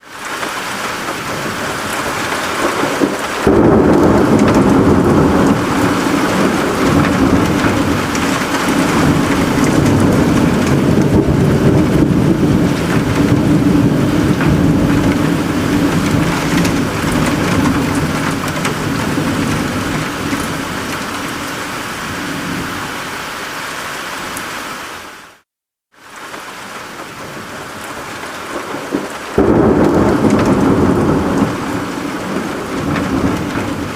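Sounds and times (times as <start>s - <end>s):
steady rain: 0.0s - 33.9s
rolling thunder rumble: 1.2s - 22.9s, 27.2s - 33.9s.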